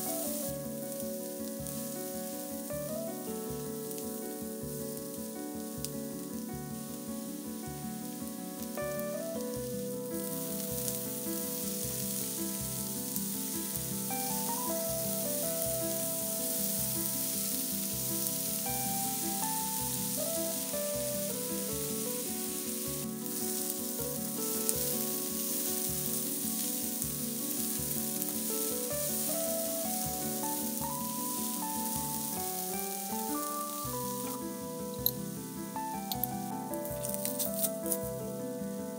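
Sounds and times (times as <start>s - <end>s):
background music with held notes: 0.0s - 38.9s
vegetables sizzling in a pan: 0.0s - 38.9s.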